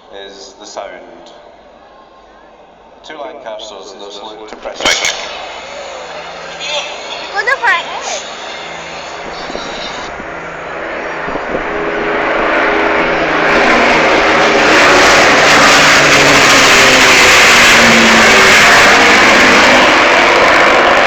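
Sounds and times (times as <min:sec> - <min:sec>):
aircraft engines droning: 0:00.8 - 0:21.0.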